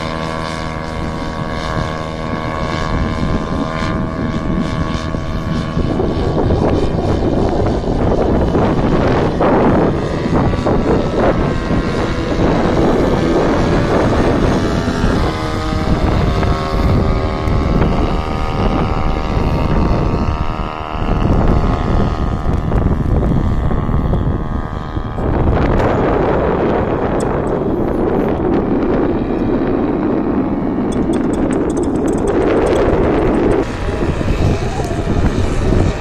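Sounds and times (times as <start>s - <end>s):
paramotor engine droning: 0.0s - 36.0s
wind buffeting microphone: 0.0s - 36.0s.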